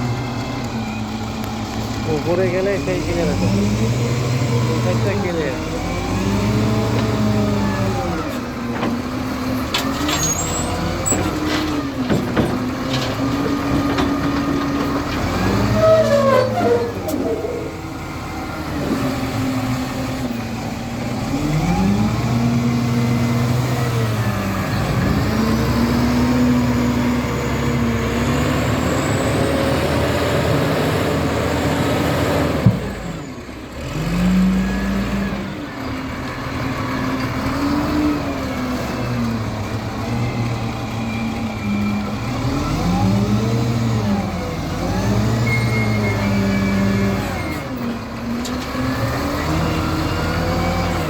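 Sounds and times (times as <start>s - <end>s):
diesel engine revving: 0.0s - 51.0s.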